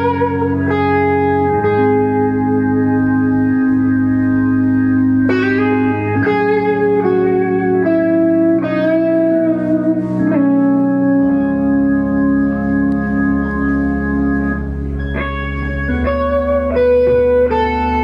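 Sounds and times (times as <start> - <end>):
electric guitar lead melody: 0.0 - 18.0
held low notes: 0.0 - 18.0.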